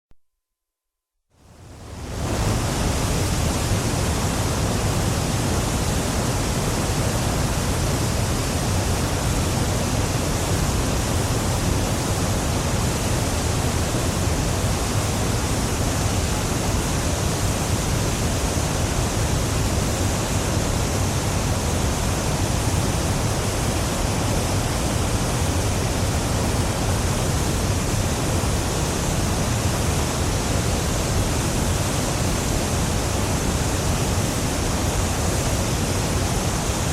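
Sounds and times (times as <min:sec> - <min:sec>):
waterfall roaring: 0:01.4 - 0:36.9.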